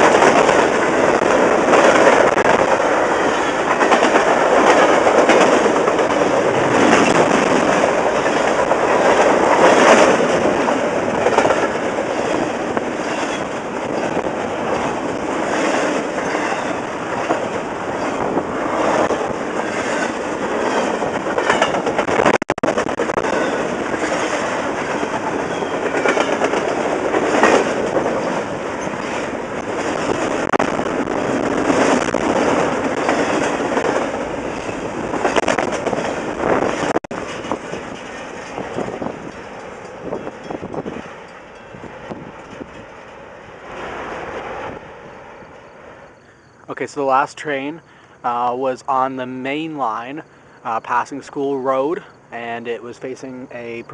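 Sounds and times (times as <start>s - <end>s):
wheels clicking over rail joints: 0.0s - 43.6s
train rumbling past: 0.0s - 53.9s.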